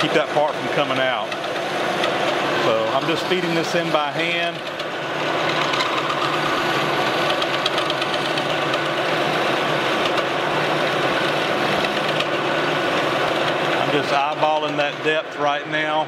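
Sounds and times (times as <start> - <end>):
metal lathe cutting: 0.0 - 16.0.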